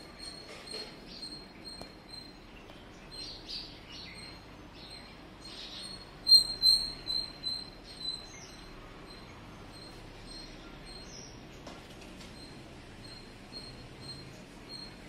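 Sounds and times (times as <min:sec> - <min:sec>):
soft bird twittering: 0:00.0 - 0:11.6, 0:12.3 - 0:15.0.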